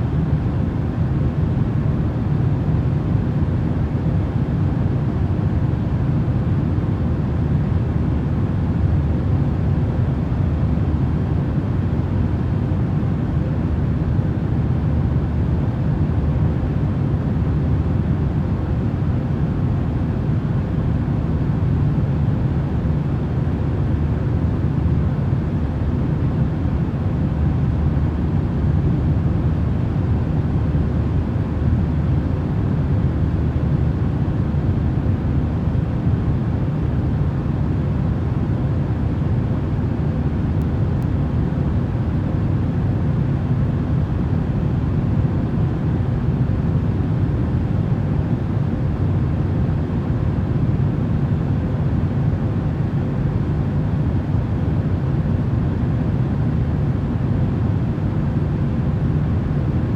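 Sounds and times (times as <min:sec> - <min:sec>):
faint steady hum: 0:00.0 - 0:59.9
low rumbling white noise: 0:00.0 - 0:59.9.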